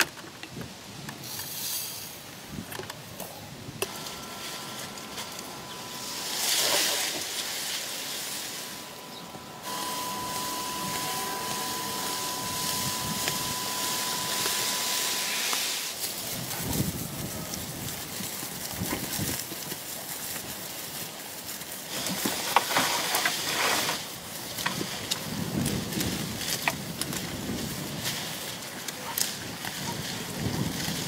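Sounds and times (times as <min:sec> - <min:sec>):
leafy branches rustling and crackling: 0:00.0 - 0:31.0
steady hiss: 0:00.5 - 0:31.0.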